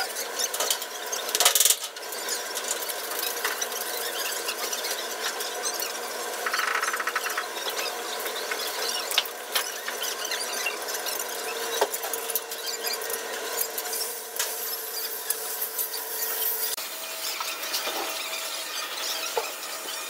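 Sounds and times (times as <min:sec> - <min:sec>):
steady high squeal: 0:03.2 - 0:20.0.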